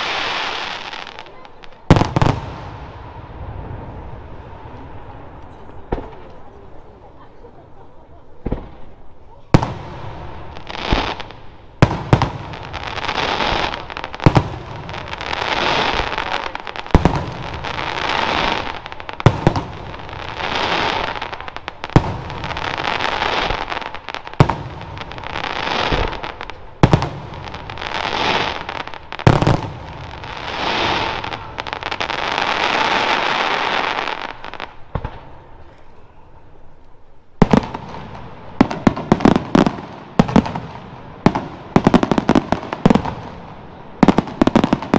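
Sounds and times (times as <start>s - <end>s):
crackling of firework stars: 0.0s - 44.9s.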